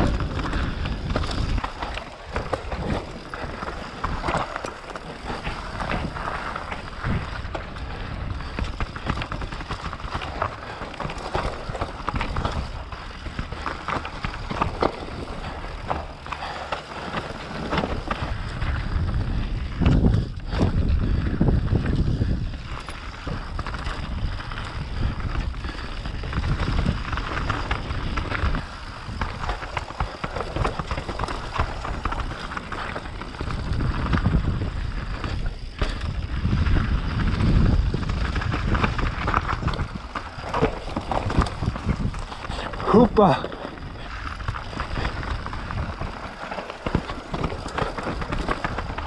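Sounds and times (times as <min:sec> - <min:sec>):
bike rattling over roots: 0:00.0 - 0:49.0
bike tyre noise on dirt: 0:00.0 - 0:49.0
wind buffeting microphone: 0:00.0 - 0:49.0.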